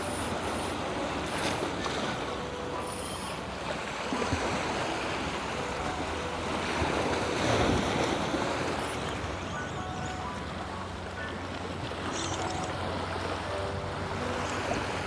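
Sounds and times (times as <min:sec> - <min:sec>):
sea waves washing against rocks: 0:00.0 - 0:15.0.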